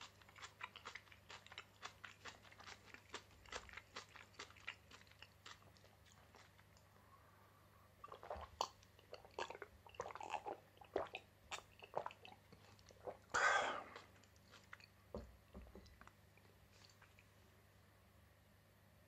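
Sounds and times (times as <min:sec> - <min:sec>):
person chewing: 0:00.0 - 0:07.0, 0:08.0 - 0:17.3.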